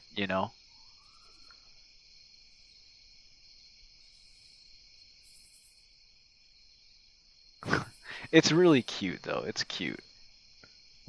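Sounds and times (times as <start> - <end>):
crickets chirring: 0.0 - 11.0
high insect trill: 0.0 - 11.0.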